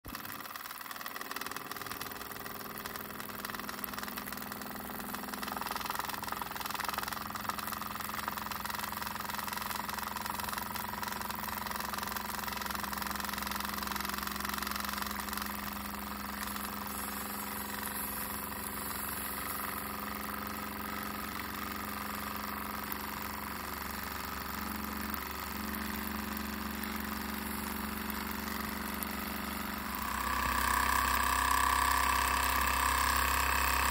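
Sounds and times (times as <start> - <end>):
model steam engine running: 0.1 - 33.9.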